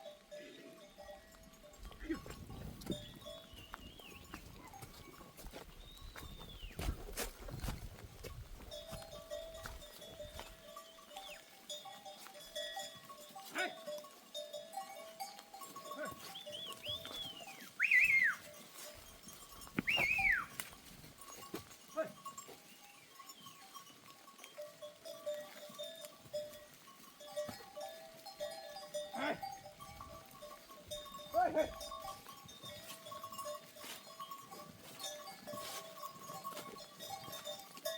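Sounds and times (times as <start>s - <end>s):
herd bells clinking: 0.0s - 6.6s, 8.0s - 37.9s.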